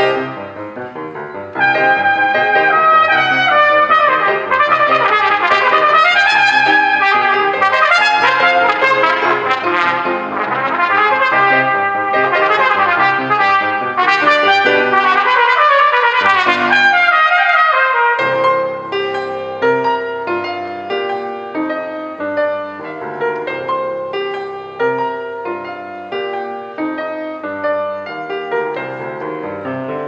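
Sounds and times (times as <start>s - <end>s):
cornet solo melody: 0.0s - 30.0s.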